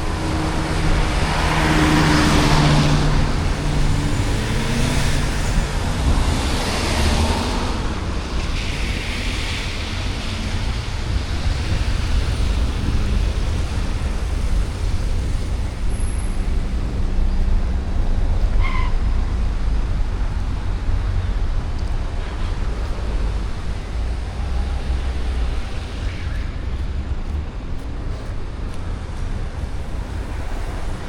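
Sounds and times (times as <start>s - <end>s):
street traffic rumble: 0.0s - 31.0s.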